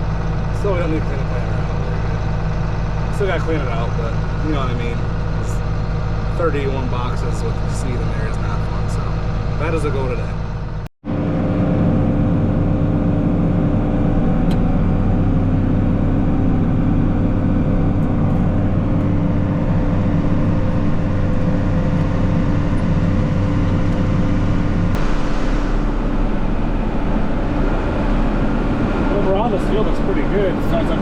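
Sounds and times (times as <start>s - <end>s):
tractor diesel engine droning: 0.0s - 31.0s.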